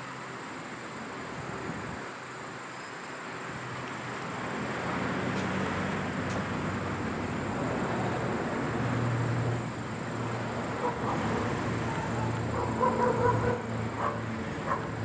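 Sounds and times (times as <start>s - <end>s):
street traffic noise: 0.0s - 15.0s
vehicle engine humming: 0.0s - 15.0s.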